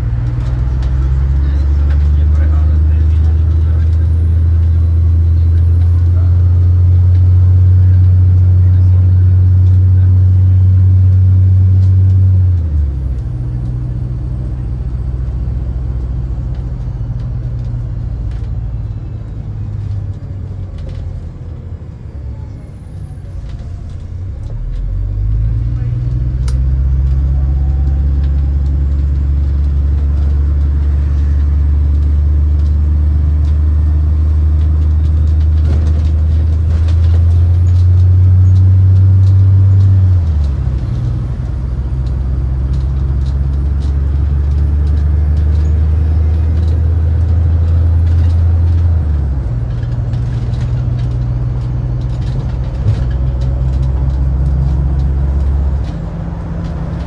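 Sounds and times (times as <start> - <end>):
bus engine drone: 0.0 - 57.0.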